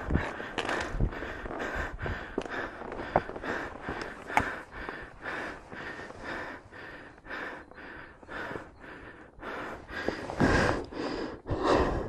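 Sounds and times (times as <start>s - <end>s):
person panting hard: 0.0s - 12.0s.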